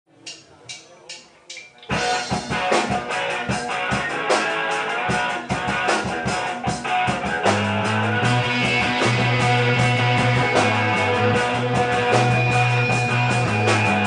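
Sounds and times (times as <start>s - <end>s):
drums: 0.1s - 14.0s
electric guitars: 1.8s - 14.0s
bass guitar line: 1.9s - 14.0s.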